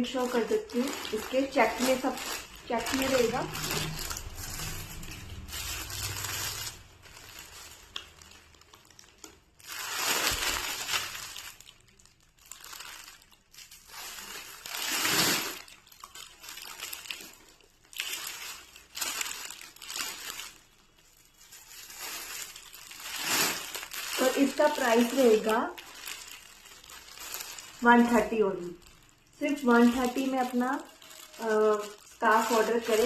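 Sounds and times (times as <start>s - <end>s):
scarf rustling and crinkling: 0.0s - 33.0s.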